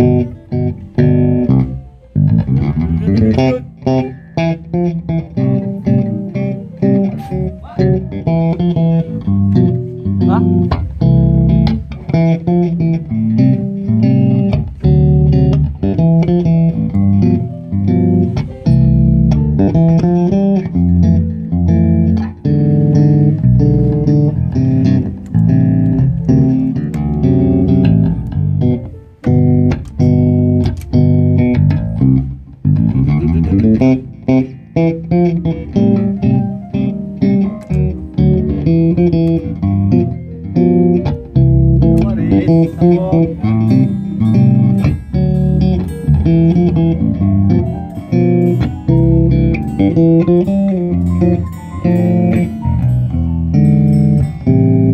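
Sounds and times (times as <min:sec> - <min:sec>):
electric bass guitar plucked: 0:00.0 - 0:54.9.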